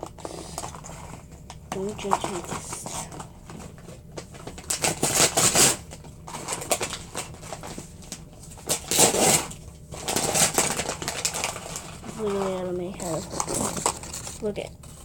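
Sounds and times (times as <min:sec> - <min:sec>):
cardboard rustling and scraping: 0:00.1 - 0:15.0.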